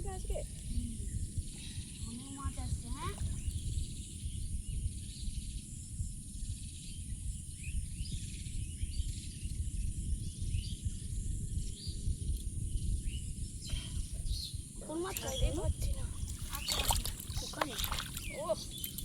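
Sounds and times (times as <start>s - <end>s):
insects droning: 0.0s - 19.0s
faint bird chirps: 0.2s - 19.0s.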